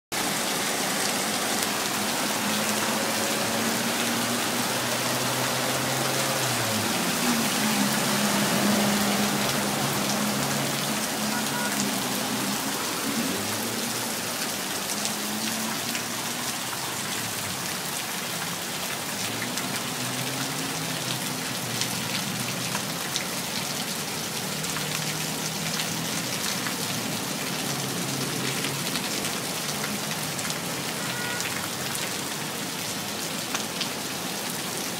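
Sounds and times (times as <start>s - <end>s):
heavy rain splashing on hard surfaces: 0.1s - 34.9s.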